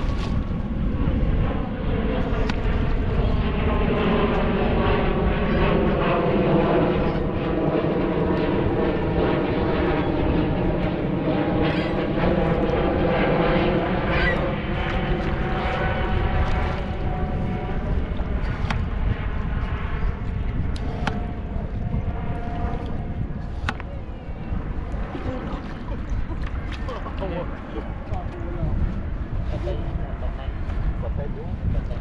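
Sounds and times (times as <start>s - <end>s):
aircraft engine drone: 0.0s - 32.0s
wind rumble on microphone: 0.0s - 32.0s.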